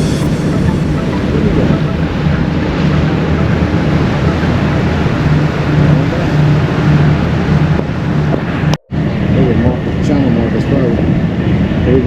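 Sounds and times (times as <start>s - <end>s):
ship engines droning: 0.0s - 10.0s.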